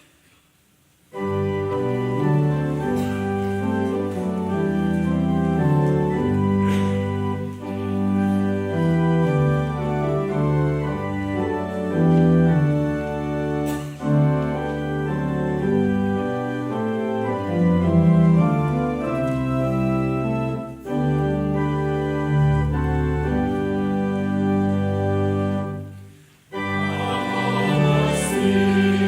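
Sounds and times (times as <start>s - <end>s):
organ playing sustained chords: 1.1s - 29.0s.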